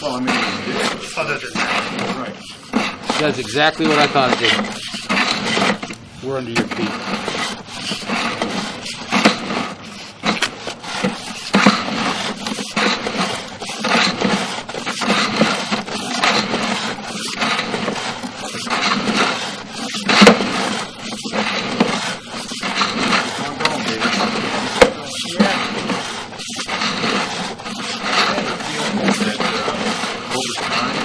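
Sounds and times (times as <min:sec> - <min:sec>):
cable scraping in pipe: 0:00.0 - 0:31.0.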